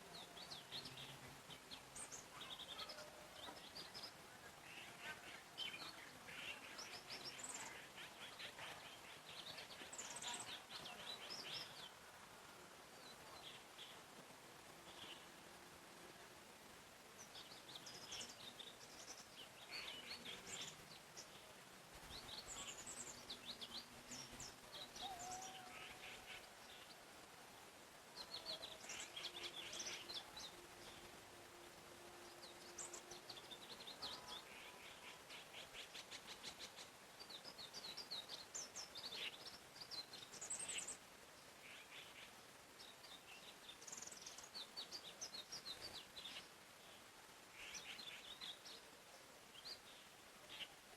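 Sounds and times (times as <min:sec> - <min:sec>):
faint forest background hiss: 0:00.0 - 0:50.9
songbirds singing and chirping: 0:00.0 - 0:50.9.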